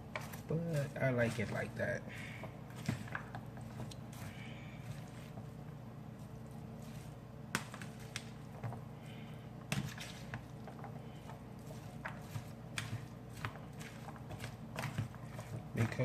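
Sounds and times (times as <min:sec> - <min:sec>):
soft squishes of salad: 0:00.0 - 0:16.0.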